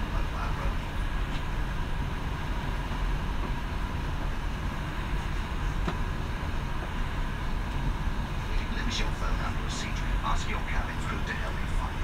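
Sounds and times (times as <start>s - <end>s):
airliner cabin rumble and hiss: 0.0s - 12.0s.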